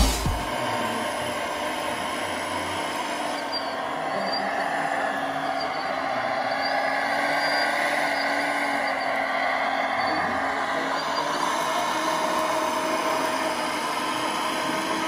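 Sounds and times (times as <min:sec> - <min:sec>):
model excavator motors whirring: 0:00.3 - 0:15.0.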